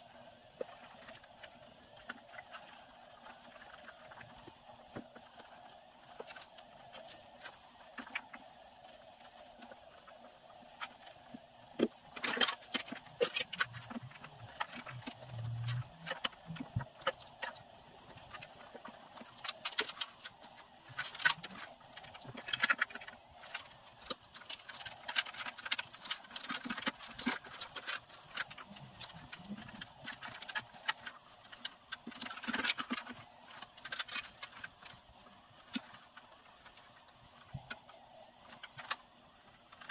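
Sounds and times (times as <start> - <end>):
faint steady hum: 0.0 - 39.9
clicks and knocks of hand work: 0.5 - 39.9.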